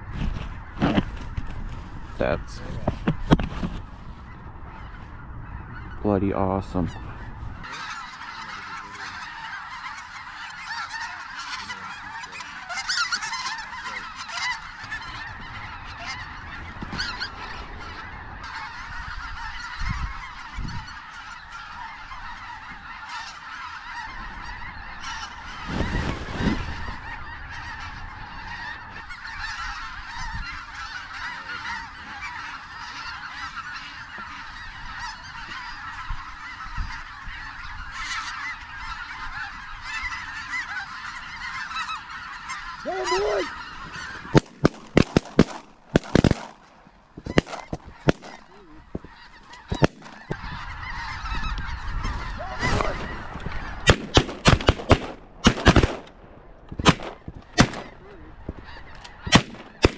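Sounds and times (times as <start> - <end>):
geese honking: 0.2 - 59.9.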